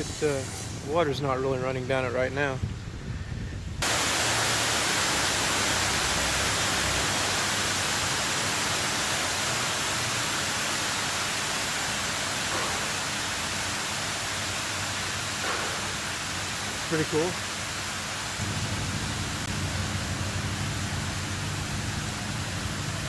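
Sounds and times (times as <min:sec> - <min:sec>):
water splashing in water feature: 0:03.8 - 0:23.0.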